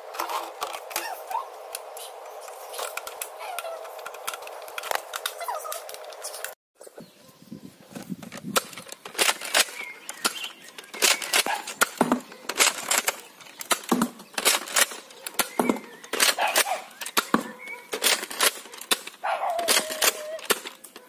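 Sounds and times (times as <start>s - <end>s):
toy dart blaster clacking and firing: 0.1s - 6.6s, 8.6s - 21.0s.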